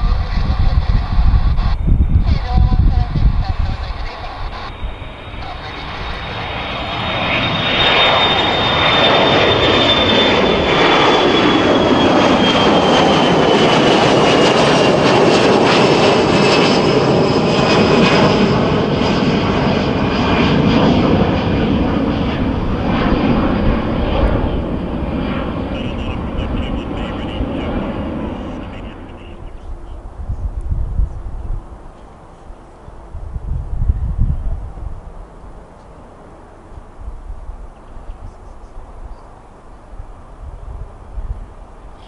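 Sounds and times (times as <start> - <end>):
high engine whine: 0.0 - 42.0
jet engines roaring: 0.0 - 42.0.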